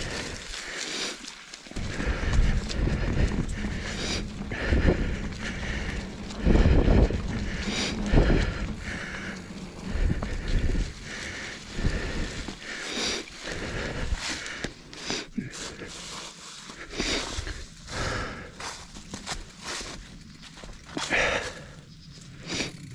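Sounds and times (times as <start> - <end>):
bike rattling: 0.0 - 22.9
bike tyres crunching through leaves: 0.0 - 22.9.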